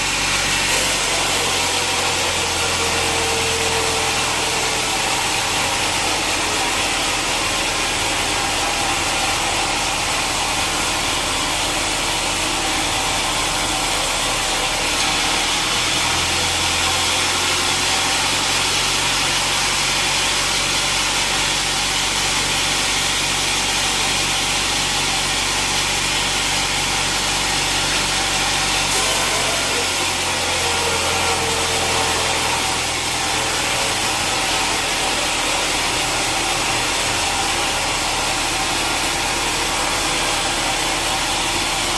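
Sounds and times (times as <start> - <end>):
sawmill saw cutting log: 0.0 - 41.9.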